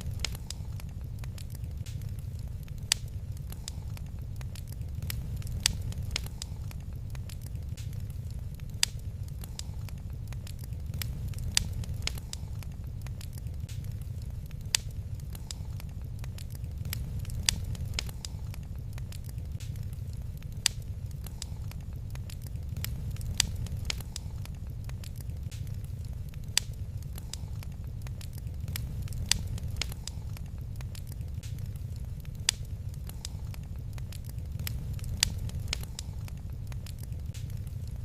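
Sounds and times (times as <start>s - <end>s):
low rumble of flames: 0.0s - 38.0s
wood fire crackling and popping: 0.0s - 38.0s.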